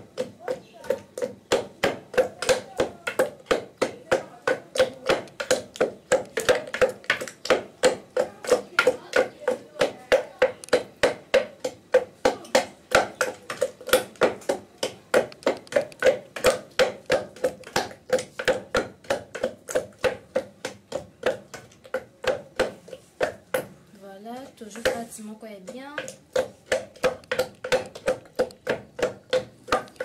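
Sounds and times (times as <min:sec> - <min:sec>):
wooden pestle pounding in mortar: 0:00.0 - 0:30.0.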